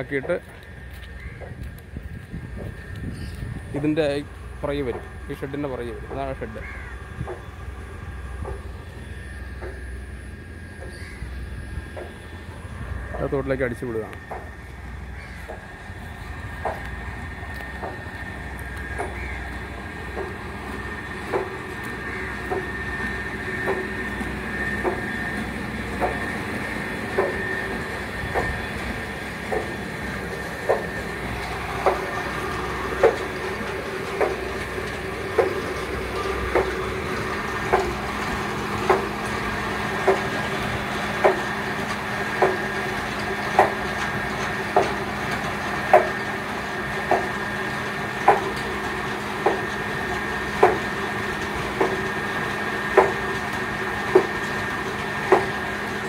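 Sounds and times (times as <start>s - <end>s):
electric pump motor humming: 0.0s - 56.0s.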